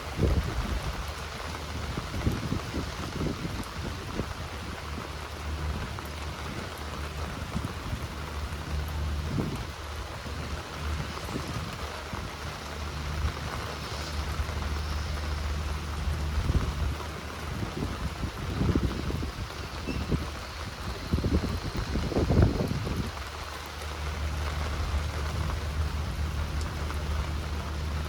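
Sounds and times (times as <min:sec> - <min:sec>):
steady rain falling: 0:00.0 - 0:28.0
low rumble: 0:05.2 - 0:28.0.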